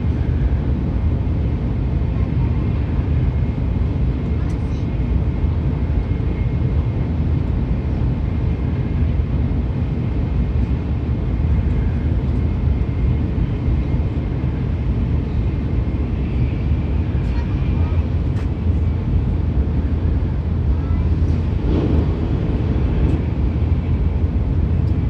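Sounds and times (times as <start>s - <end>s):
high-speed train rumble inside carriage: 0.0s - 25.0s.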